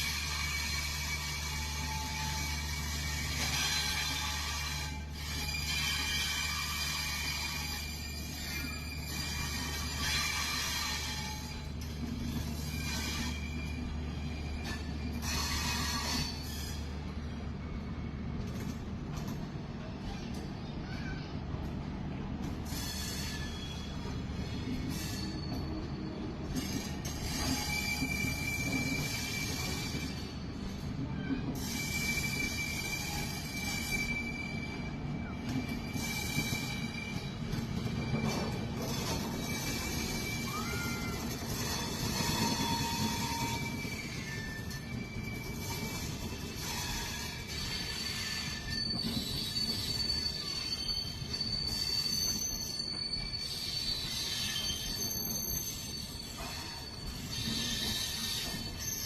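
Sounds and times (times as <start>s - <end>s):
high wheel squeal: 0.0s - 19.3s, 22.6s - 59.0s
train rumbling on rails: 0.0s - 59.0s.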